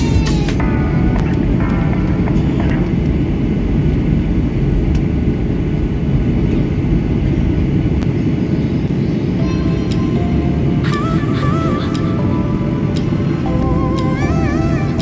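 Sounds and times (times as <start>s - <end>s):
jet cabin engine roar: 0.0s - 15.0s.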